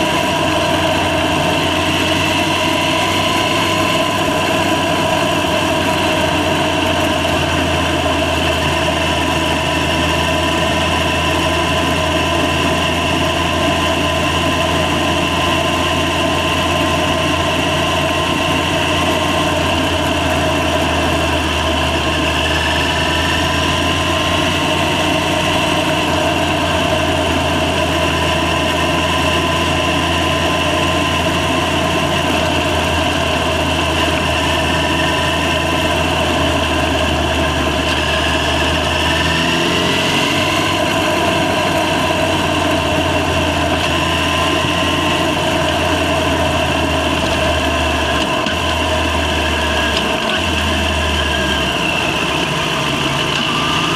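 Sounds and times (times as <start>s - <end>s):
motorcycle engine running steadily: 0.0s - 53.9s.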